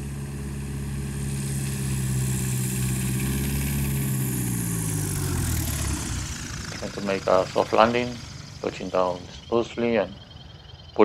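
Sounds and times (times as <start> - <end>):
light aircraft propeller engine: 0.0 - 11.0.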